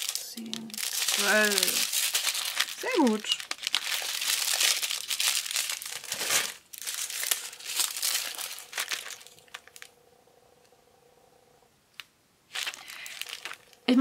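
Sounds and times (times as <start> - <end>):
plastic bags crinkling: 0.0 - 9.9, 12.5 - 14.0.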